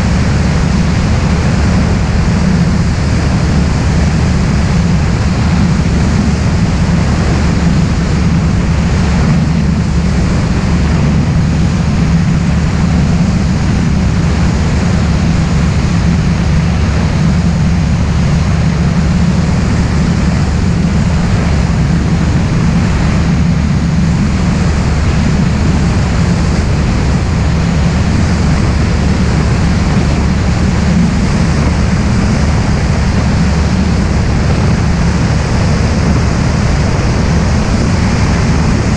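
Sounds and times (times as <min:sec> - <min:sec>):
propeller plane engine drone: 0:00.0 - 0:38.9
wind noise on microphone: 0:00.0 - 0:38.9.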